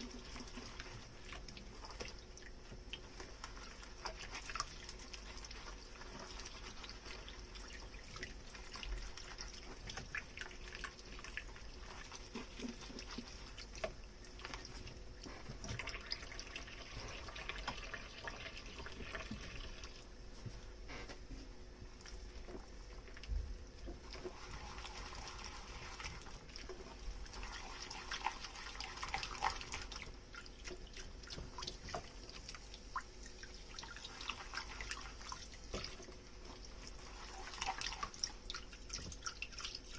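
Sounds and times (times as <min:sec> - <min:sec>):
water dripping and trickling: 0:00.0 - 0:20.6, 0:21.9 - 0:39.9.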